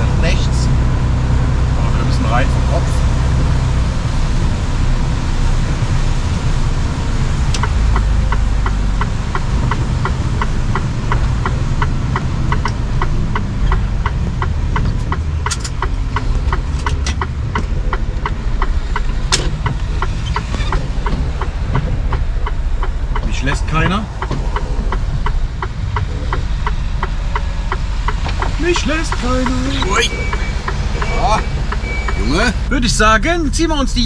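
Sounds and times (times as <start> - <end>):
diesel engine rumbling: 0.0 - 34.0
turn signal ticking: 0.0 - 34.0.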